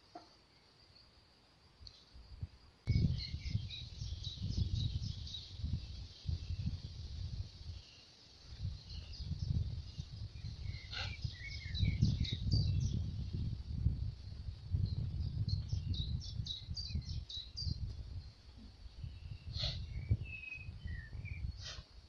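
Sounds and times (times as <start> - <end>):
songbirds chirping and trilling: 1.8 - 22.0.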